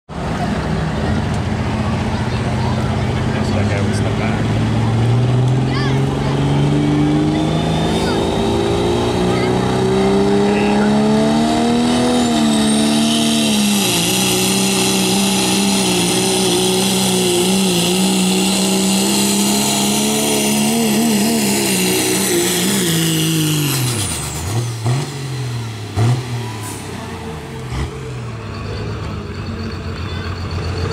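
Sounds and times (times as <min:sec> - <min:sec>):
diesel engine at high revs: 0:00.1 - 0:30.9.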